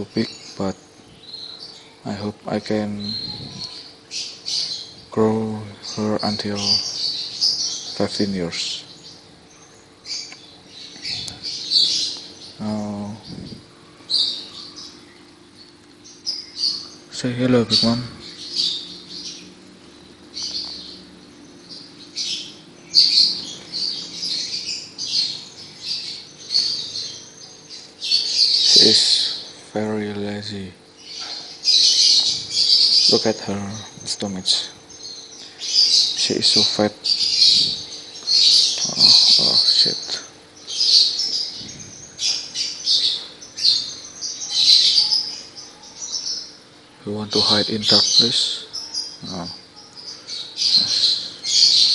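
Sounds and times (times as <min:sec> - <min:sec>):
birds chirping: 0:00.0 - 0:51.9
faint steady hum: 0:00.0 - 0:51.9.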